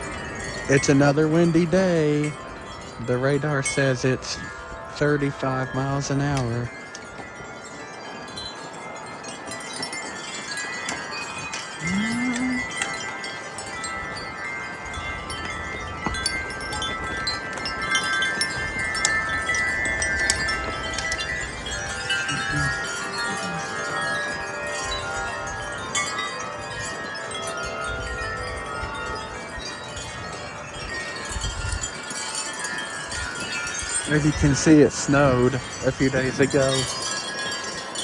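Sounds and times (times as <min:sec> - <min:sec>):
low wind rumble: 0:00.0 - 0:38.0
wind chimes ringing: 0:00.0 - 0:38.0.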